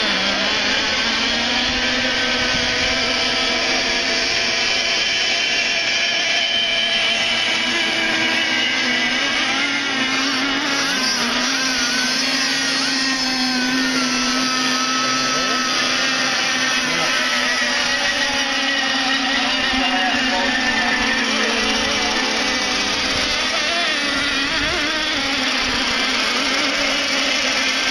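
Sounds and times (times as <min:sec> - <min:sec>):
rc boat motors whining: 0:00.0 - 0:27.9.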